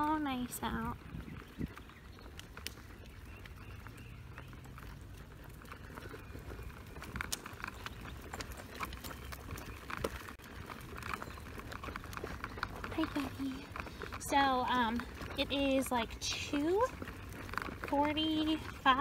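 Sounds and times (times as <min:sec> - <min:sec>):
stroller wheels rumbling: 0:00.0 - 0:19.0.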